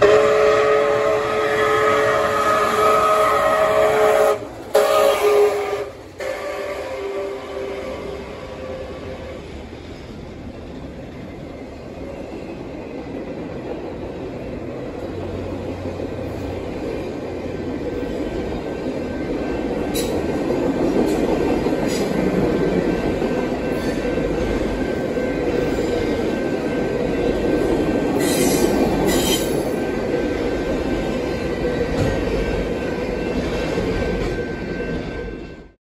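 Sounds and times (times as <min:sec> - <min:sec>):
train wheels rumbling on rail: 0:00.0 - 0:35.8.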